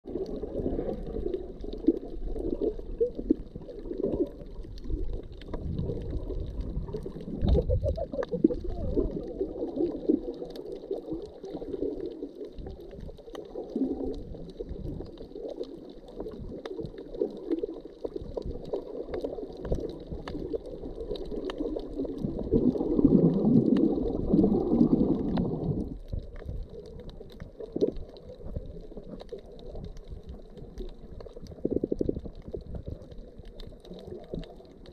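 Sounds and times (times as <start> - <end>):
faint underwater clicks: 0.0 - 34.9
muffled underwater gurgling: 0.0 - 34.9.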